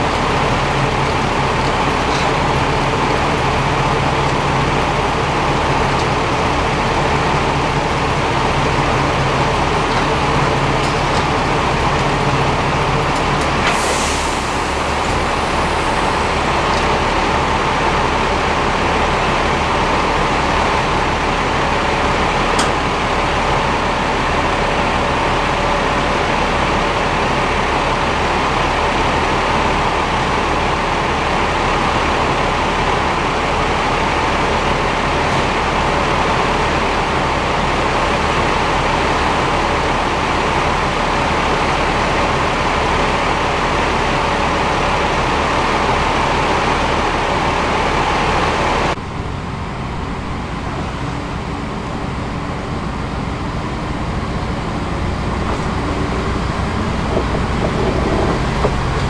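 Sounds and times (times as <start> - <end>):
approaching train rumble: 0.0 - 59.0
diesel railcar engines idling: 0.0 - 59.0.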